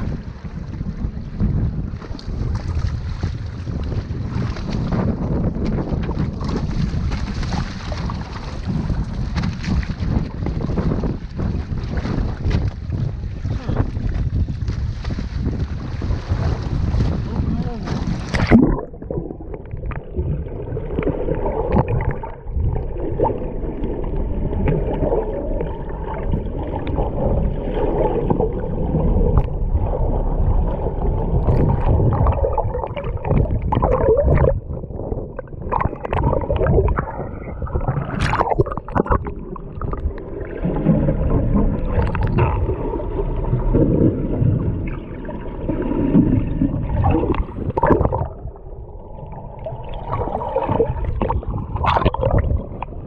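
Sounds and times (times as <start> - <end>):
underwater gurgling and bubbles: 0.0 - 53.0.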